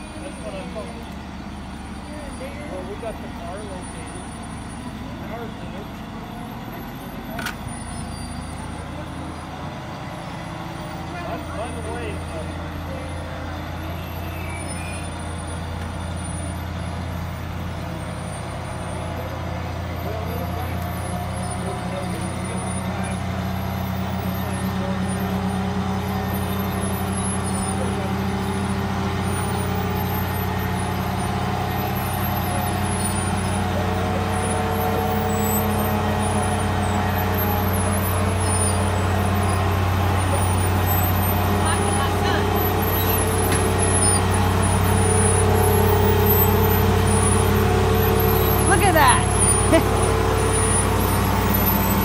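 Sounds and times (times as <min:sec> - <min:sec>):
diesel locomotive engine droning: 0:00.0 - 0:52.0.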